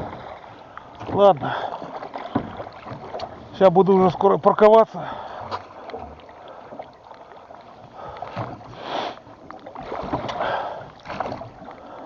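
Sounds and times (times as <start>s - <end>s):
water splashing around a boat: 0.0s - 12.0s.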